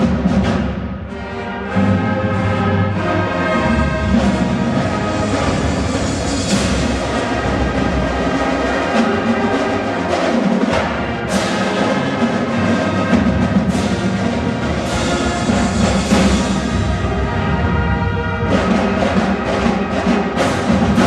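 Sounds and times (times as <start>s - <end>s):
drums: 0.0s - 21.0s
marching band brass chords: 0.0s - 21.0s.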